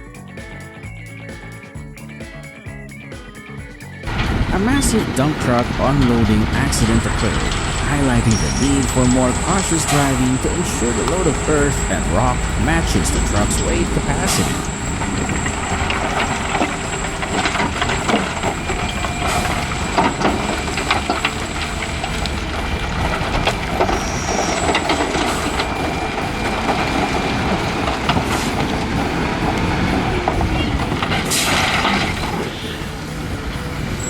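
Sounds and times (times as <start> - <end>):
dump truck engine running: 3.8 - 34.0
clattering and rattling: 4.1 - 33.8.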